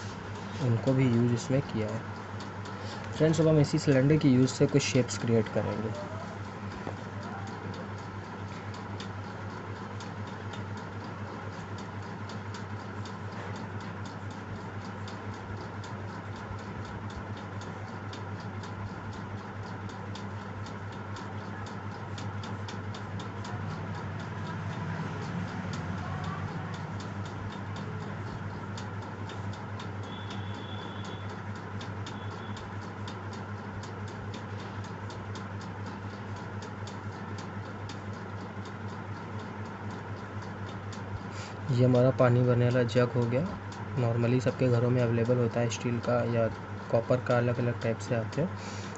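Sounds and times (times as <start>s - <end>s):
mechanical ticking: 0.0s - 48.9s.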